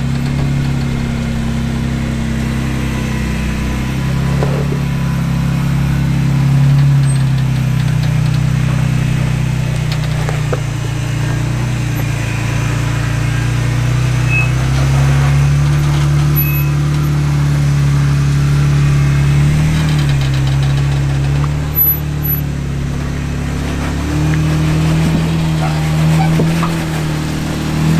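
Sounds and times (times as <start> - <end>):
car engine running at low revs: 0.0 - 27.9.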